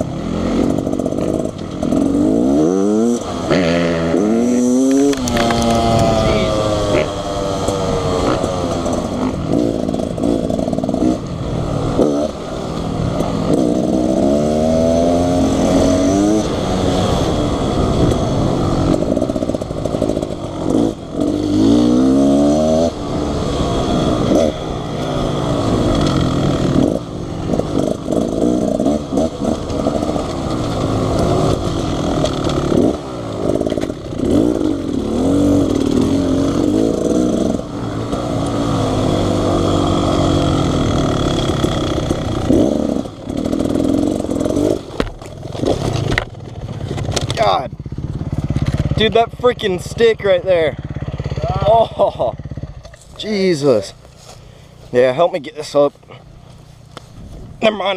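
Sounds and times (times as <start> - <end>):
dirt bike engine revving: 0.0 - 56.7.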